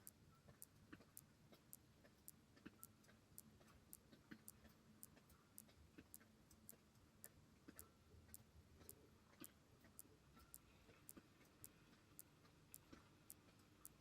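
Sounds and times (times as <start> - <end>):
faint high ticks: 0.0 - 14.0.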